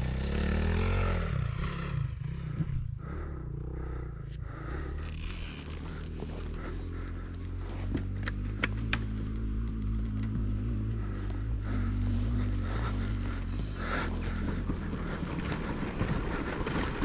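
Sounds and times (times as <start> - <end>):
motocross bike engine idling: 0.0 - 17.0.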